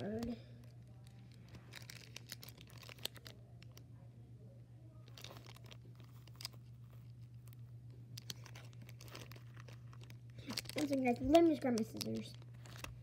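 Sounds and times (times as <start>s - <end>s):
steady low hum: 0.0s - 13.0s
plastic wrapper crinkling: 0.6s - 3.8s, 5.0s - 13.0s.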